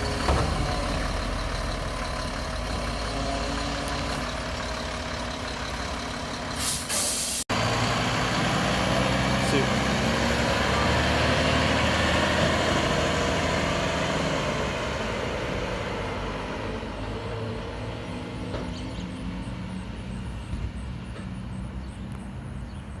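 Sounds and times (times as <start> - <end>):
garbage truck diesel engine: 0.0 - 23.0.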